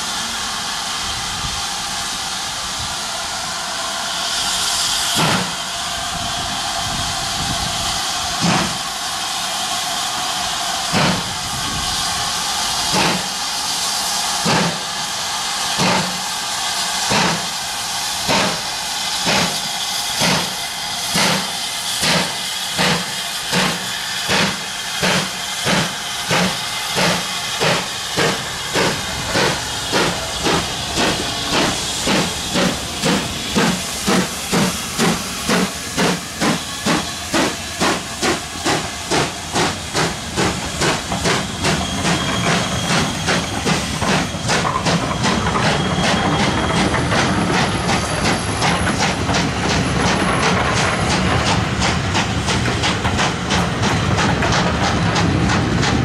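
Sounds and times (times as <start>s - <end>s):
steady hiss of steam: 0.0s - 56.0s
steam locomotive exhaust beats: 0.0s - 56.0s.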